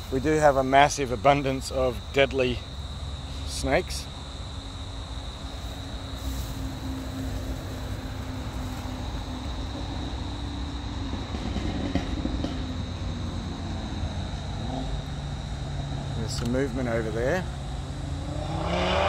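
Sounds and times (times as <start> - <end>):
high-pitched insect drone: 0.0 - 19.0
road traffic rumble: 0.0 - 19.0.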